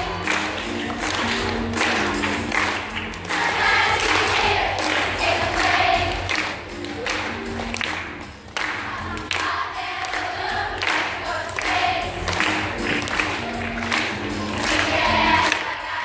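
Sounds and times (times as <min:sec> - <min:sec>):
children's choir singing: 0:00.0 - 0:07.3, 0:08.6 - 0:16.0.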